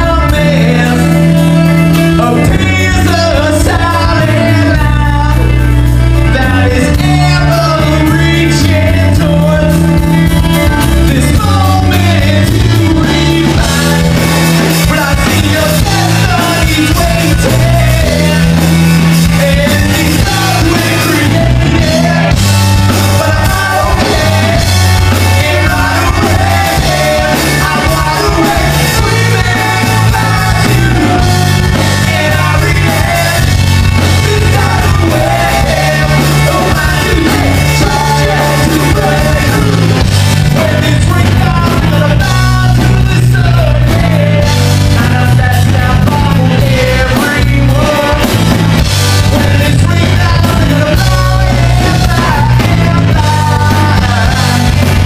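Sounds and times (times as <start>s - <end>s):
bass guitar: 0.0s - 55.0s
drum kit: 0.0s - 55.0s
electric guitar: 0.0s - 55.0s
man singing: 0.0s - 55.0s.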